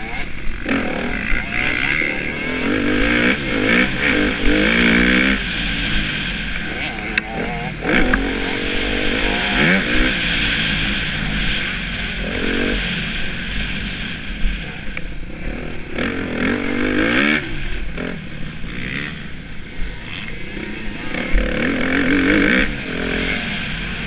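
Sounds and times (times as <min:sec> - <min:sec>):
motorbike engine revving: 0:00.0 - 0:24.0.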